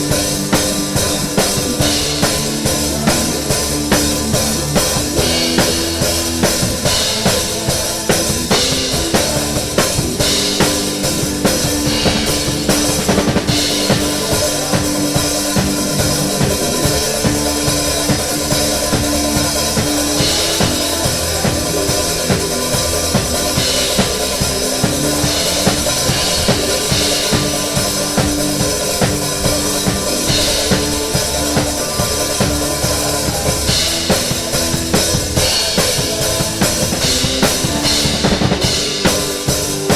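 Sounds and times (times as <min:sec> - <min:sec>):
bass and keyboard notes: 0:00.0 - 0:39.9
kick and snare drum beat: 0:00.0 - 0:39.9.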